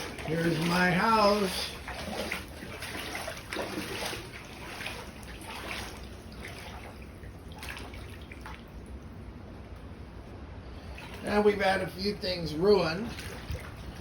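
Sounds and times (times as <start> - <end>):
floodwater sloshing and splashing: 0.0 - 14.0.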